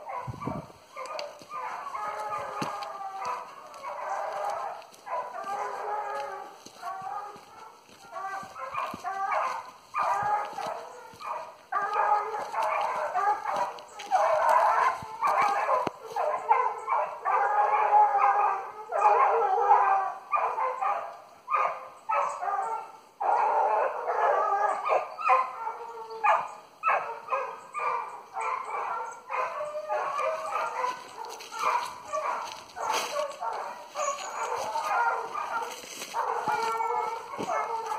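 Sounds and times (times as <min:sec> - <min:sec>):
hounds baying: 0:00.0 - 0:37.9.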